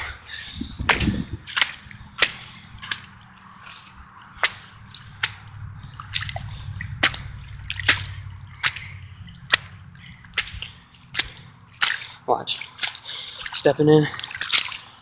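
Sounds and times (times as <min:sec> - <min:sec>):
footsteps in wet sand: 0:00.8 - 0:15.0.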